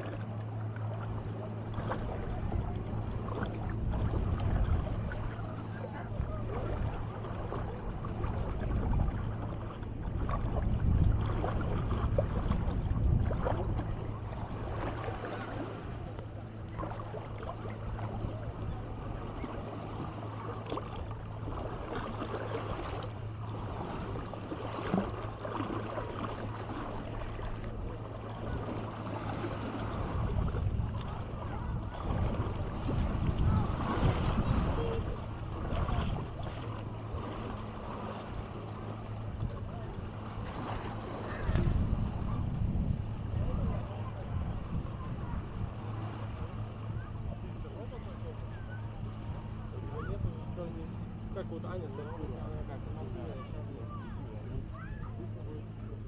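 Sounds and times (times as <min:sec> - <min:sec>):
steady low hum: 0:00.0 - 0:56.0
waves washing ashore: 0:00.0 - 0:56.0
wind buffeting microphone: 0:01.4 - 0:20.3, 0:21.0 - 0:51.3.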